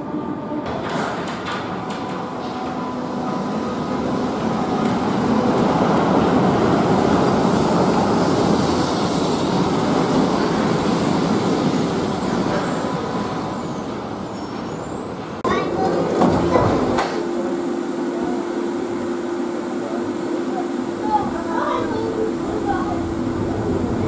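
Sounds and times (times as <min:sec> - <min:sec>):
monorail car running: 0:00.0 - 0:24.0.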